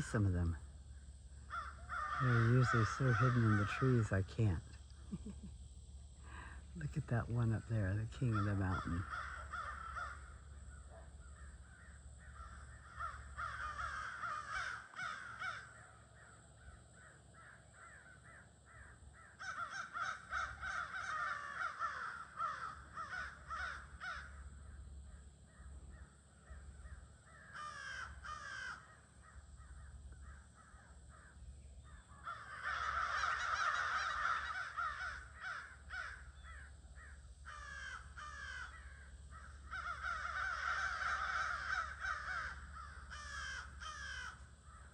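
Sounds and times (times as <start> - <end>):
crows cawing: 0.0 - 5.4, 6.0 - 6.7, 7.3 - 44.9
faint low hum: 0.0 - 44.9.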